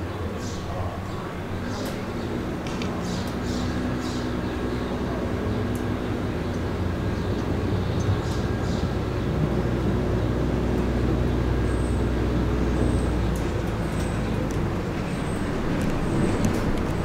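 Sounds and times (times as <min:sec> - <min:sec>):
train humming and rumbling: 0:00.0 - 0:17.0.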